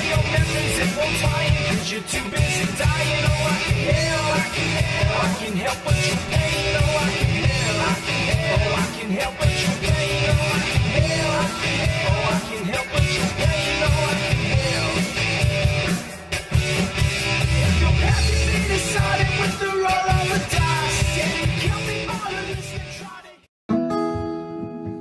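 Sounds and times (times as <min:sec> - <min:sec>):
punk rock music with singing: 0:00.0 - 0:23.5.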